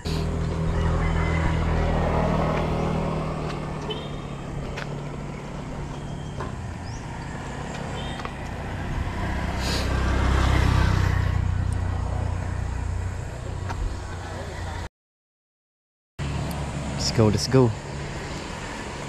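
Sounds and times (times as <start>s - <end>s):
vehicle engine rumble passing: 0.0s - 14.9s, 16.2s - 19.0s.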